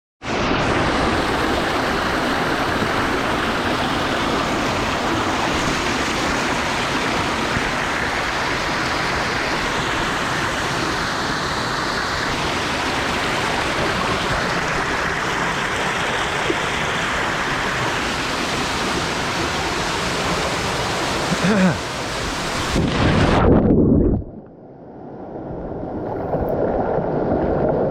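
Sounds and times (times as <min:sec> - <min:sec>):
waterfall rushing: 0:00.3 - 0:23.4.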